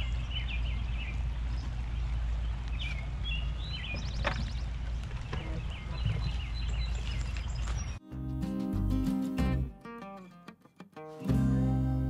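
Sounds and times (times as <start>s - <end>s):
low outdoor rumble: 0.0s - 9.7s
songbirds chirping: 0.0s - 10.4s.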